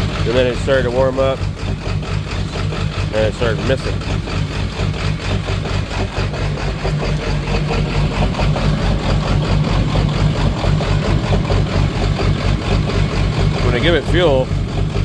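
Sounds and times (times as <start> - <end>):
diesel engine idling unevenly: 0.0 - 15.0.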